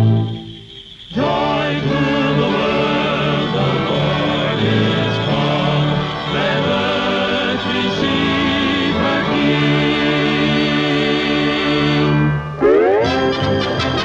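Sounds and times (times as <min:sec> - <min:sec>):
choir singing with accompaniment: 0:01.1 - 0:13.7.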